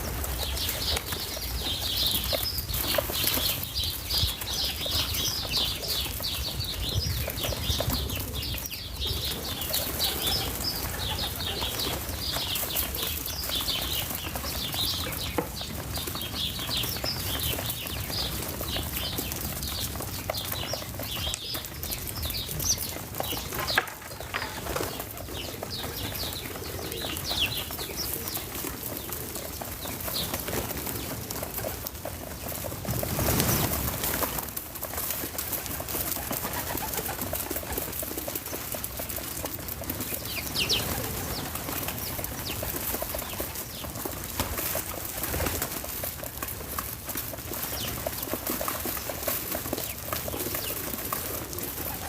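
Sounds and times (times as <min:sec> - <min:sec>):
wild birds chirping: 0:00.0 - 0:52.0.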